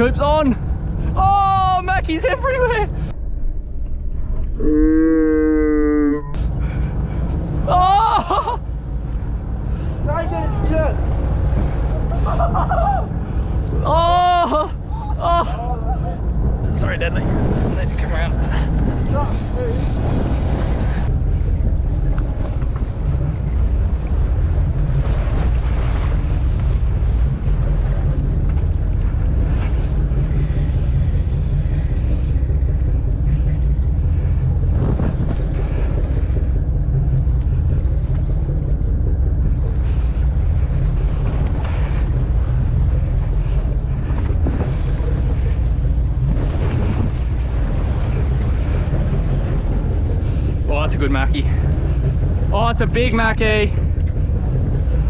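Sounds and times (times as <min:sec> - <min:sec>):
boat running noise: 0:00.0 - 0:03.1, 0:04.6 - 0:55.0
wind buffeting microphone: 0:00.0 - 0:55.0.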